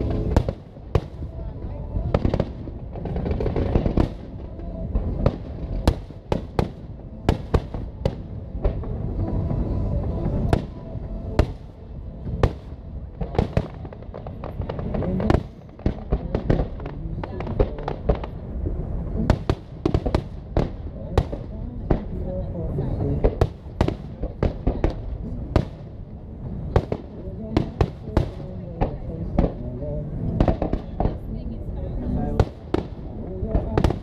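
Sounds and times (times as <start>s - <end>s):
fireworks bangs: 0.0s - 29.7s, 30.4s - 31.4s, 32.2s - 34.0s
continuous low rumble: 0.0s - 34.0s.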